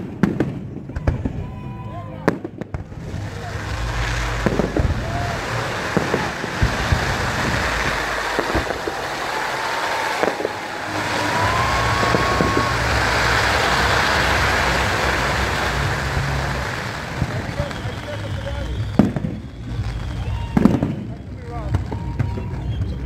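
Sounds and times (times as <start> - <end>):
firework bangs: 0.0 - 23.0
firework crackling hiss: 2.4 - 23.0
low rumble: 2.6 - 23.0
firework whistles: 2.8 - 23.0.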